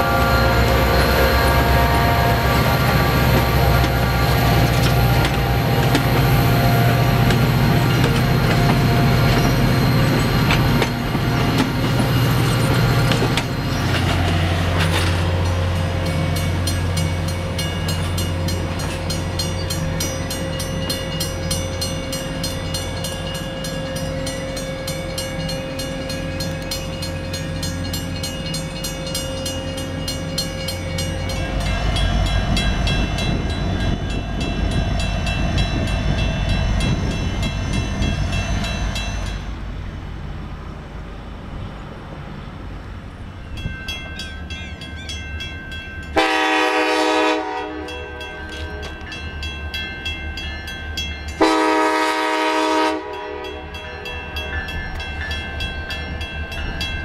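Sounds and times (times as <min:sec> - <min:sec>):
diesel locomotives running: 0:00.0 - 0:57.0
train cars rolling on rails: 0:00.0 - 0:57.0.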